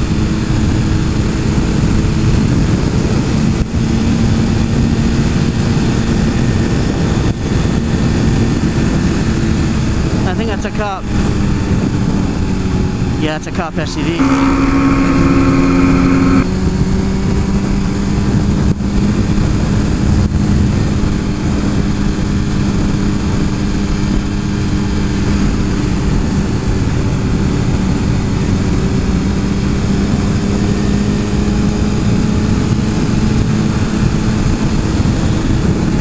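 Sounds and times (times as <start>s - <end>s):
motorcycle engine cruising: 0.0s - 36.0s
wind rush on microphone: 0.0s - 36.0s.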